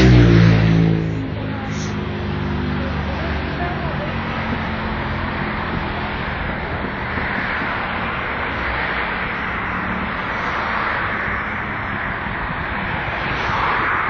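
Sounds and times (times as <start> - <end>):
road traffic rush: 0.0 - 14.0.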